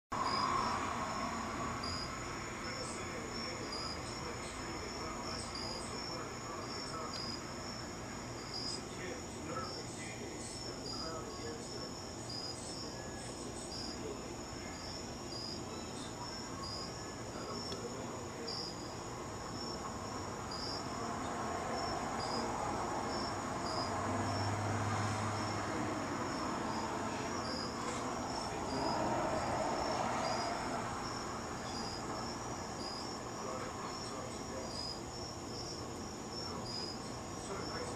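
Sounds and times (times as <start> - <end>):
crickets chirping: 0.1 - 37.9.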